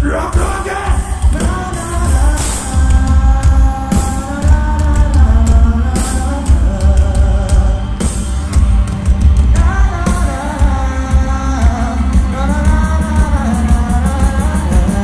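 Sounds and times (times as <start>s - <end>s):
lead vocal singing: 0.0s - 15.0s
live pop-rock band: 0.0s - 15.0s.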